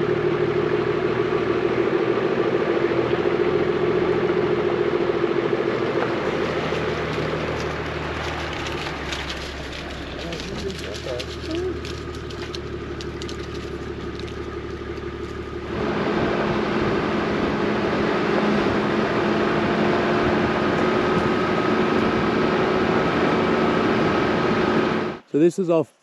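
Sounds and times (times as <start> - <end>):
tyre and road noise: 0.0 - 25.5
vehicle engine hum: 0.0 - 25.5.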